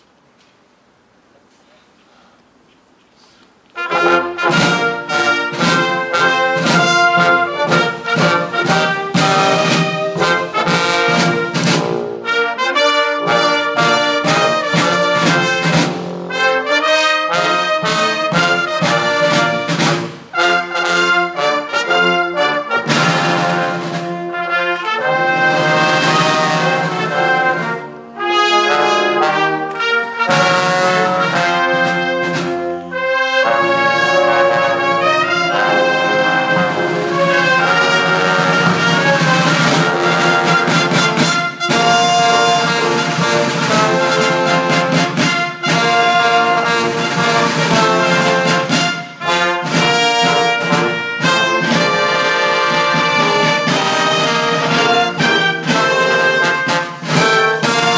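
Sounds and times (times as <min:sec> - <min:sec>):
brass band playing slow piece: 0:03.7 - 0:57.9.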